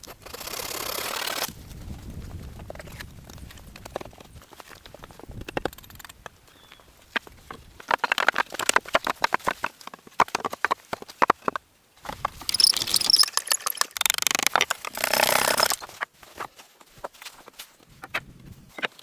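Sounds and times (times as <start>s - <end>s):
hand tools scraping earth and stone: 0.0s - 1.6s, 2.5s - 19.0s.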